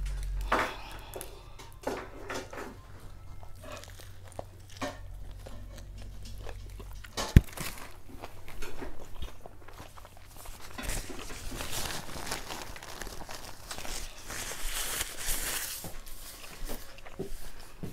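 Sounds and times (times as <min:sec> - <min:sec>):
crackles: 0:00.0 - 0:17.6
biting and chewing sandwich: 0:00.0 - 0:17.8.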